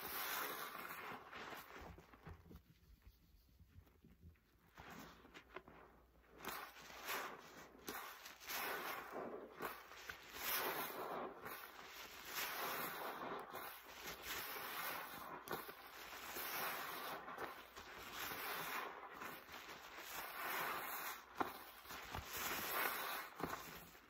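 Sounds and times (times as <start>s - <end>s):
sponge squelching in soapy water: 0.0s - 24.0s.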